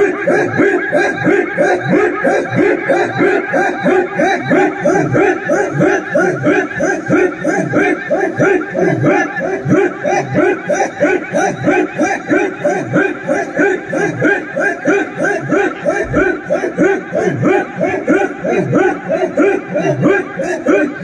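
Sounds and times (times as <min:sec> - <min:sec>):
group chanting rhythmic shouts: 0:00.0 - 0:21.0.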